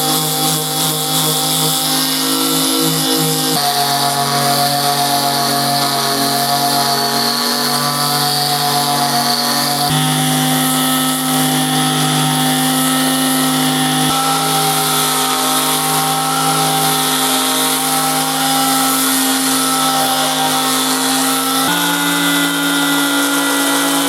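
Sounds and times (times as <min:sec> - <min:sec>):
electric sander grinding steel: 0:00.0 - 0:24.0.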